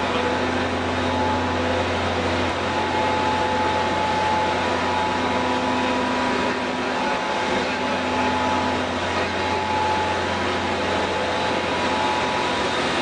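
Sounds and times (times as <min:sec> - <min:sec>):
machinery running with low hum: 0:00.0 - 0:13.0.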